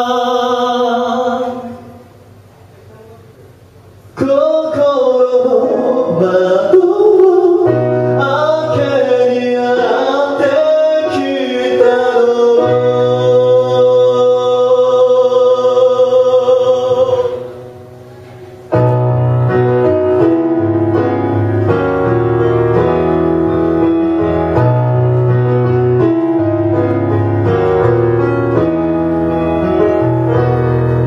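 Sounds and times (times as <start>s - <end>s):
piano playing: 4.0s - 31.0s.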